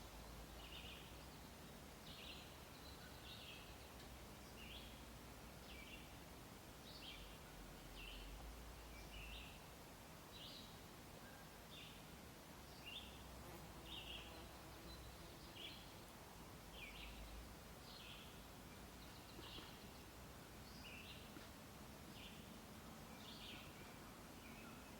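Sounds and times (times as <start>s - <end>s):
faint bird chirping: 0.0s - 6.2s, 6.8s - 9.7s, 10.3s - 24.9s
steady background hiss: 0.0s - 24.9s.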